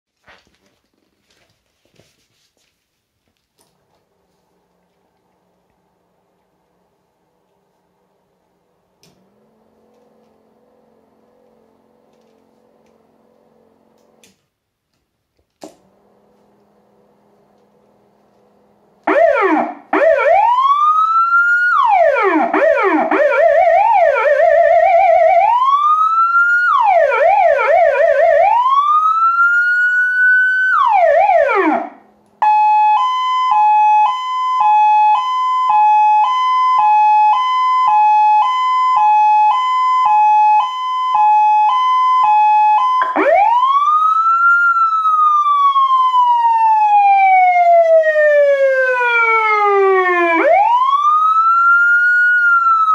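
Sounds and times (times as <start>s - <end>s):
police siren wailing and yelping: 3.7s - 14.2s, 15.8s - 52.9s.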